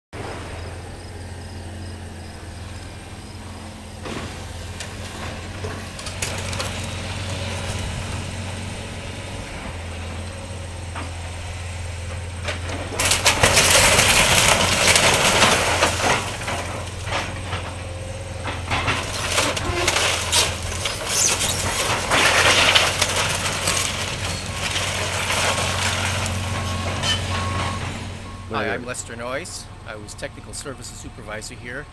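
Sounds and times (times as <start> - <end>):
diesel engine running: 0.1 - 31.9
debris crashing and breaking: 0.2 - 29.6
building material crunching: 1.9 - 10.2, 12.4 - 31.6.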